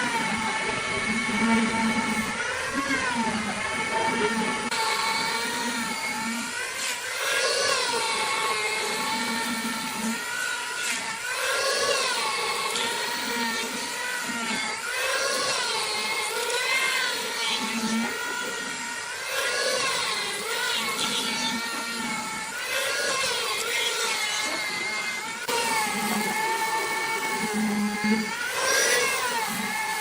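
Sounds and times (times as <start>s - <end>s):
power tool motor whining: 0.0s - 30.0s.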